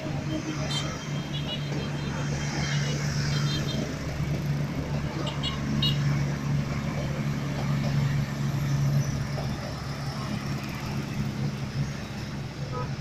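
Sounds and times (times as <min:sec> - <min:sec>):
train rolling past: 0:00.0 - 0:12.6
motorbike and car traffic: 0:00.0 - 0:13.0.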